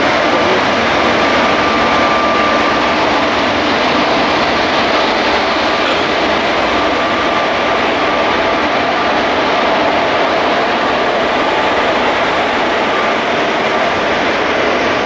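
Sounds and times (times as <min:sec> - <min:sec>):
faint steady tones: 0:00.0 - 0:15.0
train wheels running on rails: 0:00.0 - 0:15.0.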